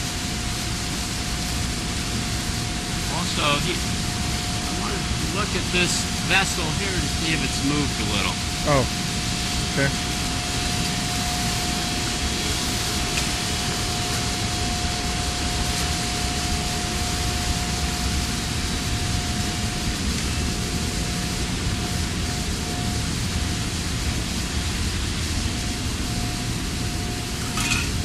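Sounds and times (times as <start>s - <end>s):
industrial rushing roar: 0.0s - 28.0s
steady machine whine: 0.0s - 28.0s.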